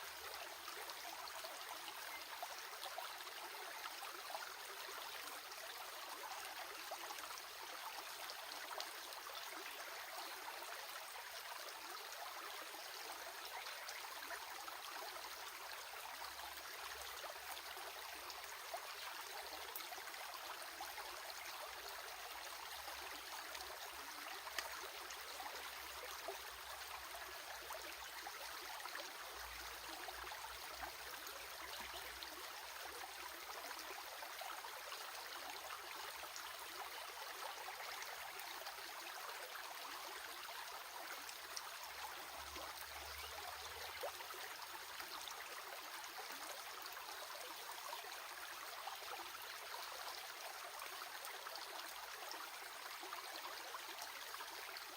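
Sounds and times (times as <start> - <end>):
stream babbling over stones: 0.0 - 54.9.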